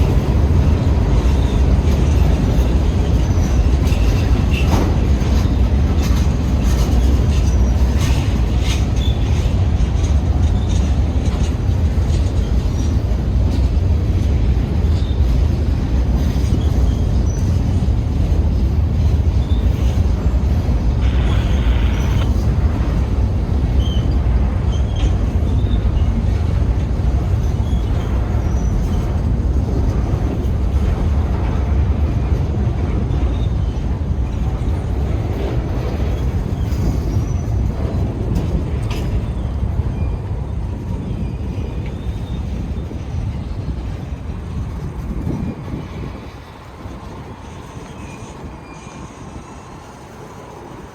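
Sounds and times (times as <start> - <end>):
freight cars rumbling on rails: 0.0 - 50.9.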